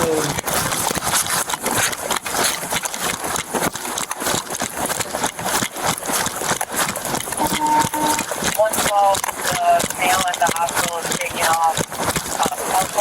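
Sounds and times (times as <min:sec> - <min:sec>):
gear jostling: 0:00.0 - 0:13.0
running footsteps: 0:00.0 - 0:13.0.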